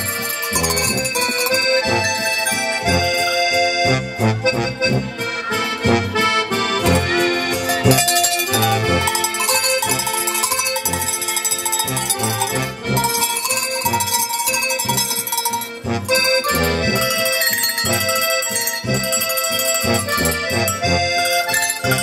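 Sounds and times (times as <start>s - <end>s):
tuned cowbells ringing: 0.0s - 3.5s, 6.9s - 22.0s
oom-pah accordion music: 0.0s - 22.0s.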